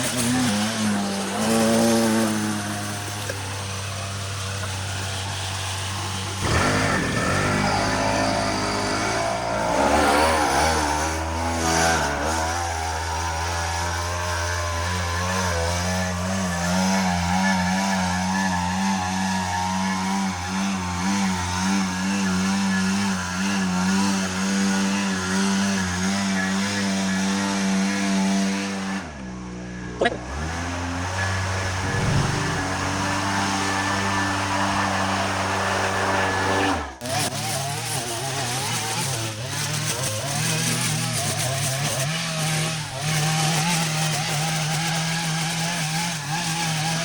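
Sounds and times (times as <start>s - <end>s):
brush cutter engine running: 0.0s - 47.0s.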